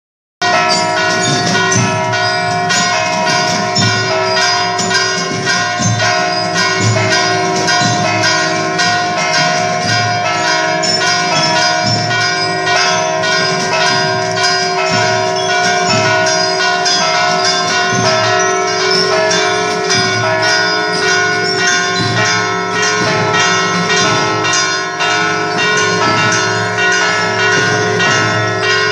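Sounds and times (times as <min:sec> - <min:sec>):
church bells ringing: 0:00.4 - 0:28.9.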